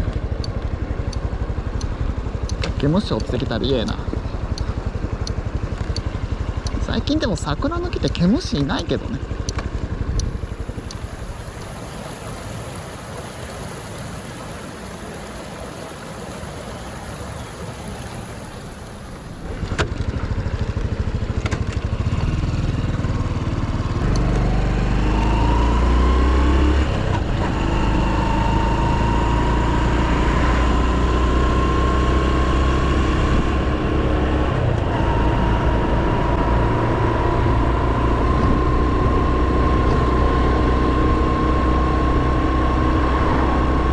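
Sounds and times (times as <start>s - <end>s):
motorcycle engine accelerating: 0.0s - 12.3s, 18.3s - 43.9s.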